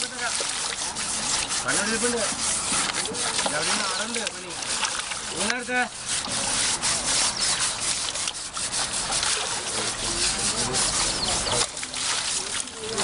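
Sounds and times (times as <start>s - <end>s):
husk scrubbing wet hide: 0.0s - 13.0s.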